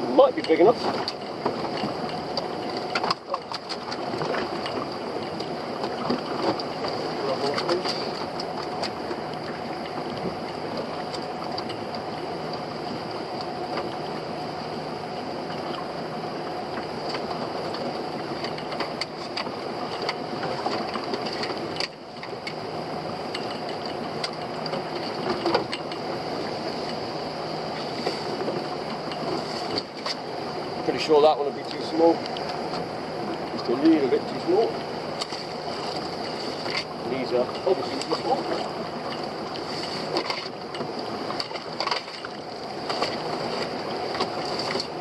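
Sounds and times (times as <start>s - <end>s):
boat engine running: 0.0s - 45.0s.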